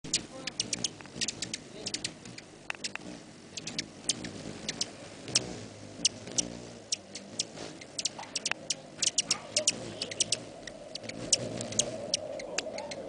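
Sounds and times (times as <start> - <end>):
hummingbird wings humming: 0.0 - 13.0
hummingbird chip notes: 0.1 - 13.0.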